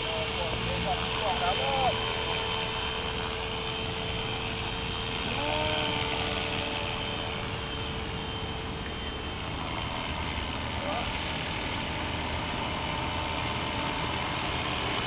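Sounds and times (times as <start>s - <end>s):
rc helicopter motor whine: 0.0s - 15.0s
rotor blades humming: 0.0s - 15.0s.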